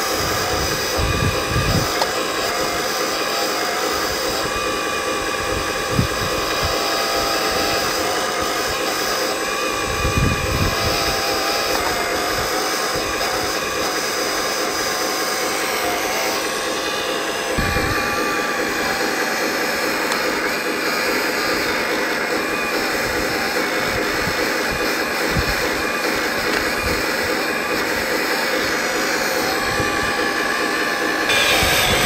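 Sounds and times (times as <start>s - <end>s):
hydraulic pump whining: 0.0s - 32.0s.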